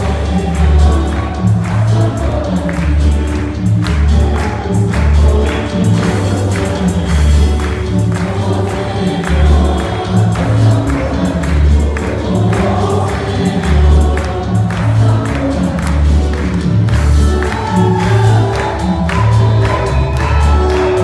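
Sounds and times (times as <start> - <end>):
group singing gospel song: 0.0 - 21.0
heavy pulsing bass line: 0.0 - 21.0.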